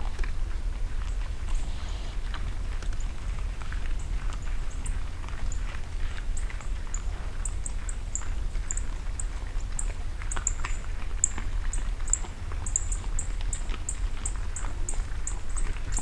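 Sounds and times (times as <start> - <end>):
hogs crunching and snuffling: 0.0 - 16.0.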